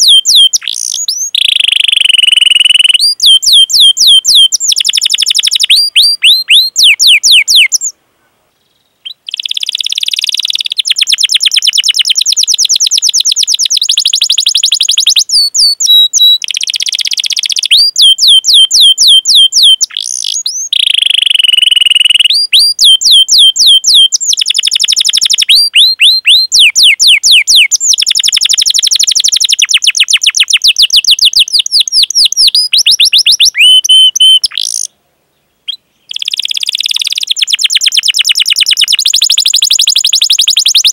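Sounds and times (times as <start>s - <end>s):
canary singing: 0.0s - 7.9s, 8.8s - 34.9s, 35.7s - 40.9s.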